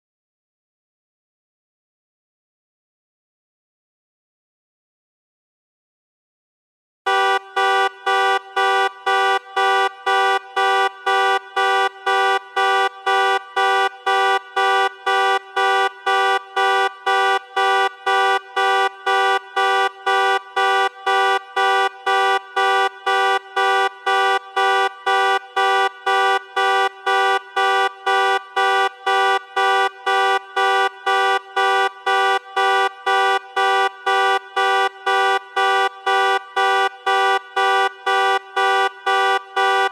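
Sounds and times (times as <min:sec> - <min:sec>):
car alarm horn beeping: 0:07.1 - 0:39.9.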